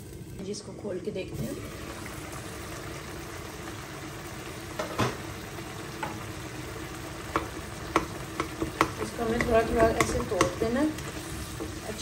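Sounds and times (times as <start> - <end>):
sauce simmering and bubbling: 1.4 - 12.0.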